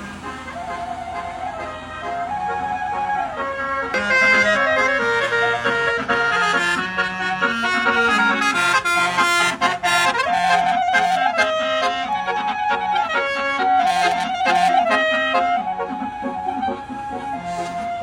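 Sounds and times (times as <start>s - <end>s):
bus horn playing a tune: 0.0s - 18.0s.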